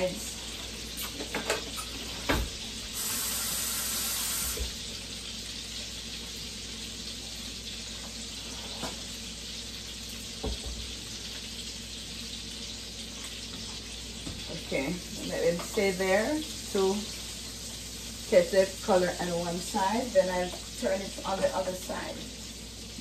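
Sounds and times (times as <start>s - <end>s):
sausages sizzling in skillet: 0.0s - 23.0s.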